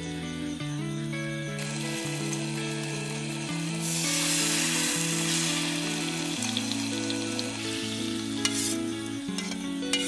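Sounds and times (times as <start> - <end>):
soft background music: 0.0 - 10.0
sauce sizzling in a frying pan: 1.6 - 10.0.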